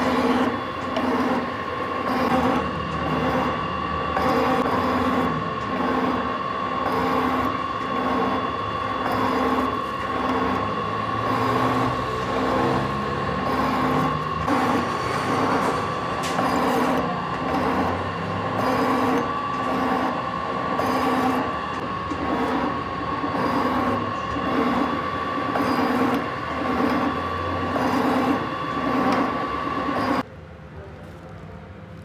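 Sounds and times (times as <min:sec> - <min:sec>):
metal lathe whining: 0:00.0 - 0:30.3.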